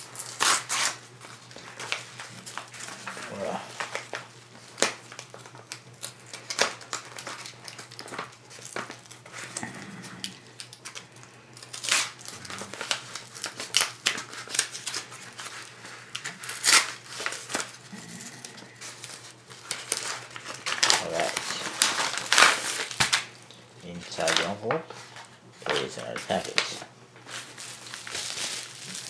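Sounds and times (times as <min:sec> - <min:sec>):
paper envelope crinkling and tearing: 0:00.0 - 0:29.0.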